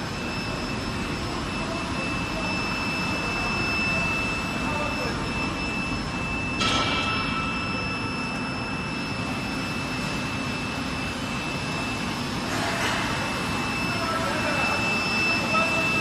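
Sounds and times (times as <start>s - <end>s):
factory machinery humming: 0.0s - 16.0s
high-pitched machine whine: 0.0s - 16.0s.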